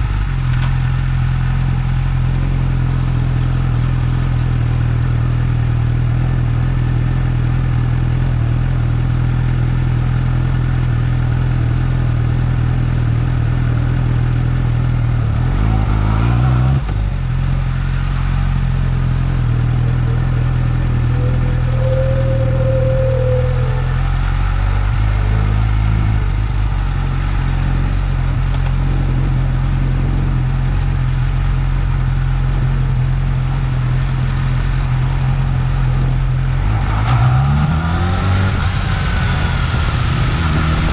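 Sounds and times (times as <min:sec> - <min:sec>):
motorcycle engine idling: 0:00.0 - 0:15.6, 0:16.9 - 0:36.6.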